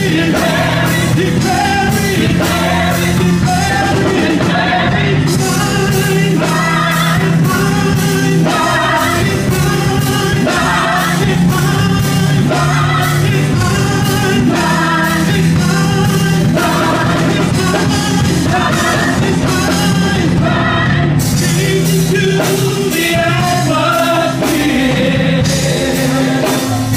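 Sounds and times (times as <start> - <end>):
drums: 0.0 - 26.9
guitar: 0.0 - 26.9
singers singing together: 0.0 - 26.9.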